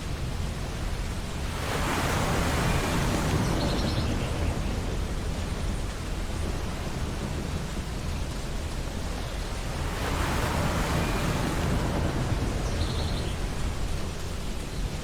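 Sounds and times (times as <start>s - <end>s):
ocean waves washing on beach: 0.0s - 15.0s.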